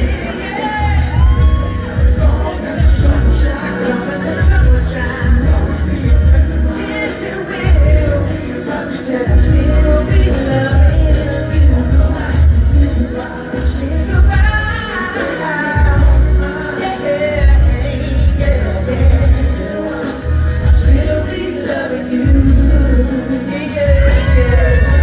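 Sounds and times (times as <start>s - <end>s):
heavy pulsing bass: 0.0s - 25.0s
loud pop music with singer: 0.0s - 25.0s.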